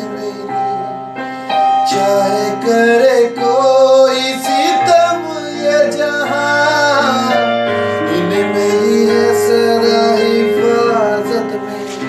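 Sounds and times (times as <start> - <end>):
electronic keyboard chords: 0.0 - 12.0
man singing: 0.0 - 12.0.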